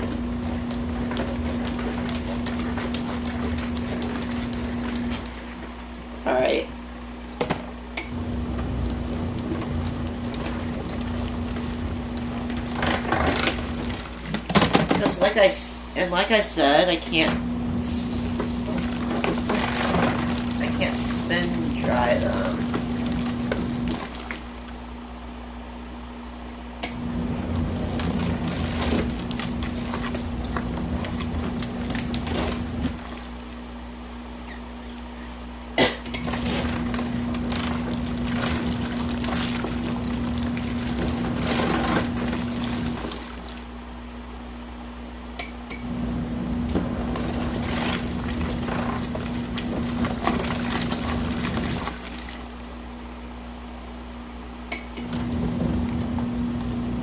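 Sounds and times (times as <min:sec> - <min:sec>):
water sloshing in washing machine: 0:00.0 - 0:24.9, 0:26.8 - 0:43.9, 0:45.7 - 0:53.0, 0:54.7 - 0:57.0
washing machine hum: 0:00.0 - 0:57.0.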